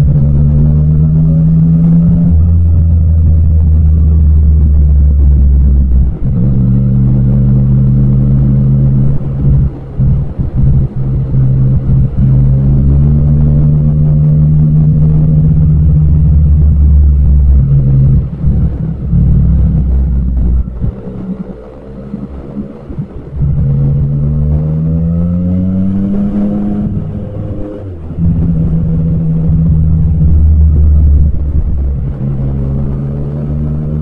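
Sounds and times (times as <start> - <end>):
motorcycle engine and exhaust: 0.0 - 34.0.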